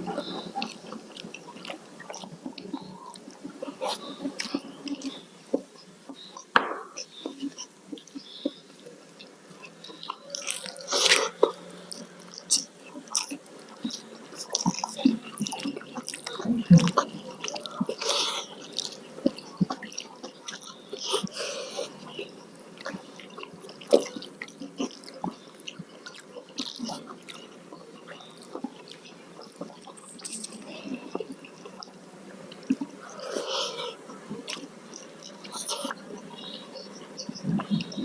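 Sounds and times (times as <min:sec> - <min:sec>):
wet chewing and mouth smacks: 0:00.3 - 0:08.6, 0:09.2 - 0:33.6, 0:34.3 - 0:36.5.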